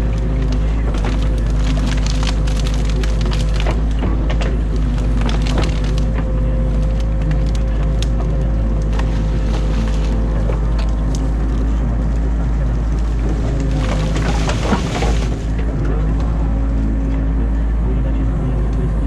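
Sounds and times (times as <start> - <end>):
branches cracking and snapping: 0.0 - 16.5
excavator diesel engine running: 0.0 - 19.0.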